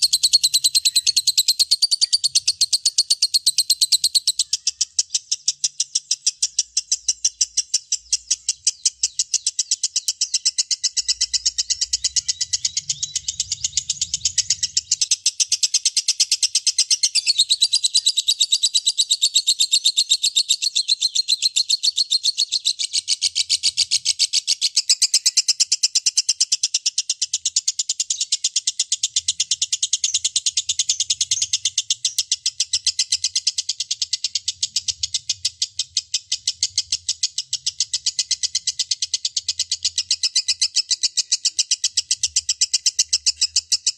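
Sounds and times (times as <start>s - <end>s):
bird chirping rapidly: 0.0s - 43.9s.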